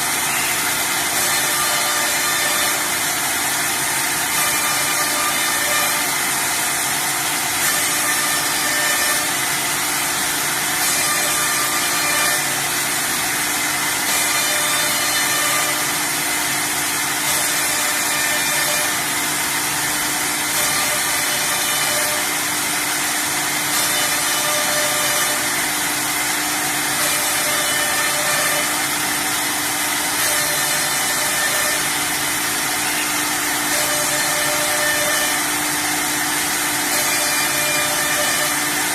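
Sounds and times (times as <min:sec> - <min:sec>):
cnc router machining noise: 0:00.0 - 0:38.9.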